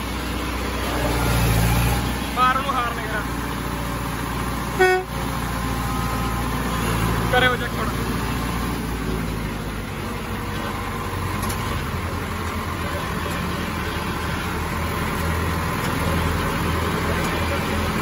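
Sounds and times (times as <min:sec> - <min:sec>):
diesel tractor engines running: 0:00.0 - 0:18.0.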